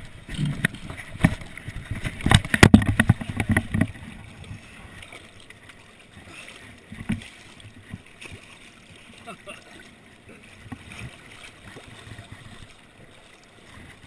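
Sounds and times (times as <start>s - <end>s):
river running: 0.0s - 14.0s
splashing in shallow water: 0.0s - 14.0s.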